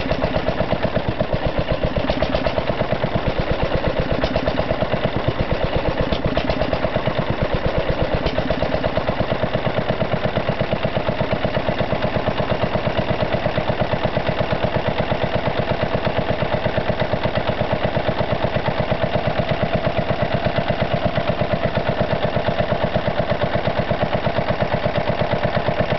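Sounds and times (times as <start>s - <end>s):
stationary engine running: 0.0s - 25.9s.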